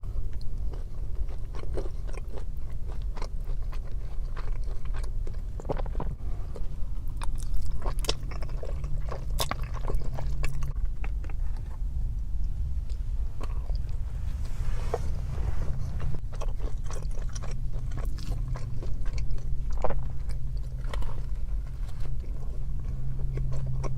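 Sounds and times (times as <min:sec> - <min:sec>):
biting and chewing: 0:00.2 - 0:14.0, 0:16.0 - 0:23.9
low hum: 0:04.2 - 0:23.9.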